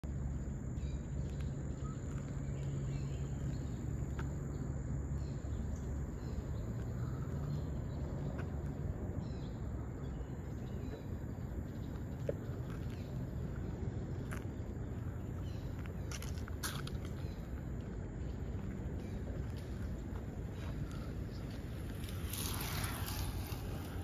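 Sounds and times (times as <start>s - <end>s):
low steady rumble: 0.0s - 24.0s
faint insect chirps: 0.1s - 24.0s
insects droning: 0.1s - 24.0s.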